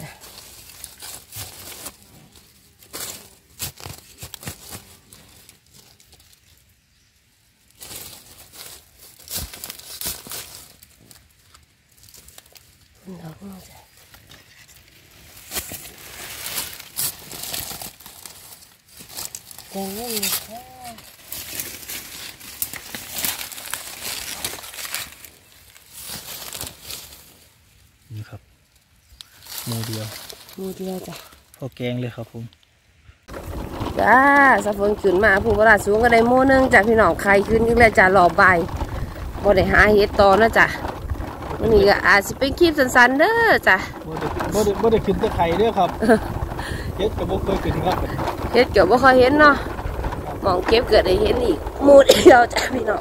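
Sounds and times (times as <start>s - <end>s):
dry leaves and soil rustling: 0.0s - 53.0s.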